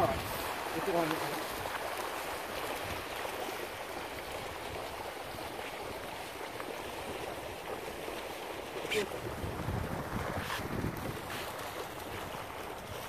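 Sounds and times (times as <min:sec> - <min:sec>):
fish splashing water: 0:00.0 - 0:13.0.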